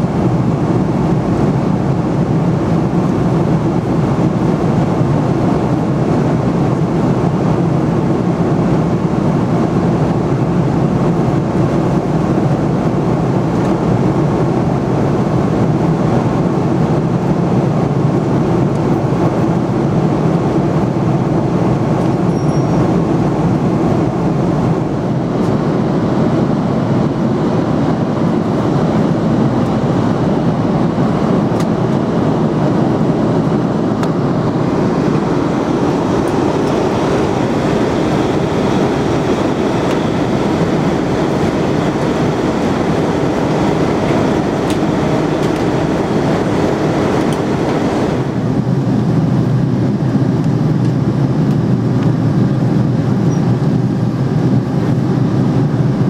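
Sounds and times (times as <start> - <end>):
airplane cabin engine roar: 0.0 - 56.0.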